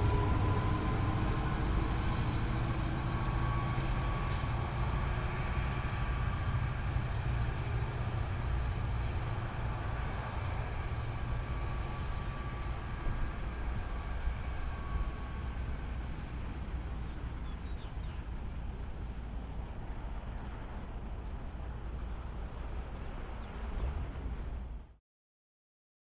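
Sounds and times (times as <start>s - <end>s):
train rumbling on tracks: 0.0s - 25.0s.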